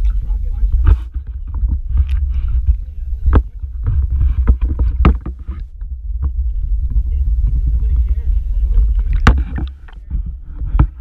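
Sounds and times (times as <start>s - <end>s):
underwater rumble of moving water: 0.0s - 11.0s
water splashes: 0.0s - 11.0s.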